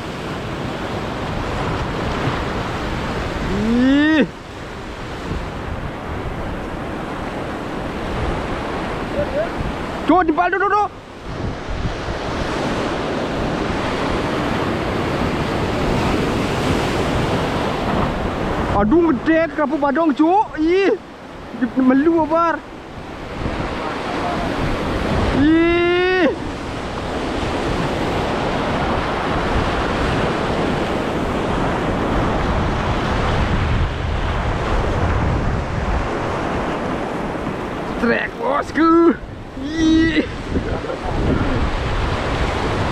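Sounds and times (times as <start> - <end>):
wind noise on microphone: 0.0 - 10.3, 11.0 - 19.2, 22.8 - 38.1, 39.2 - 42.9
surf washing over reef: 0.0 - 42.9.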